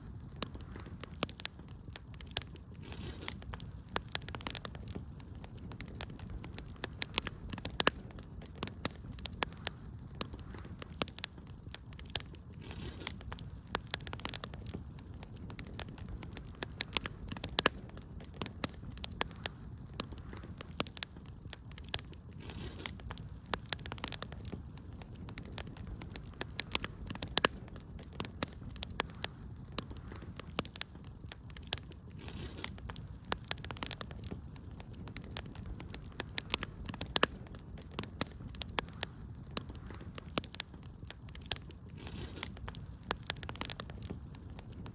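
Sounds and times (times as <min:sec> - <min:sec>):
low rumble of flame: 0:00.0 - 0:44.9
sharp pops and snaps: 0:00.0 - 0:44.9
wood fire crackling: 0:00.0 - 0:44.9.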